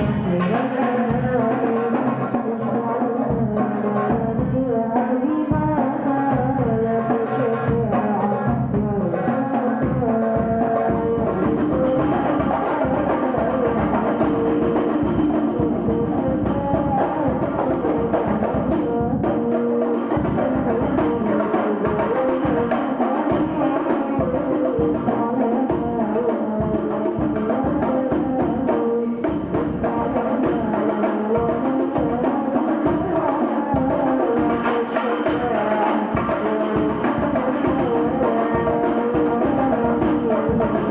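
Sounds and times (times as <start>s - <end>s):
frame drums and tambourine beat: 7.7s - 40.9s.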